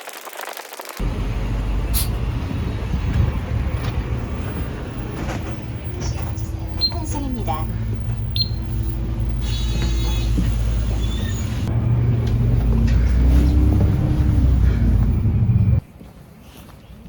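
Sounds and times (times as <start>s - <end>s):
bus engine and road rumble: 1.0s - 17.0s.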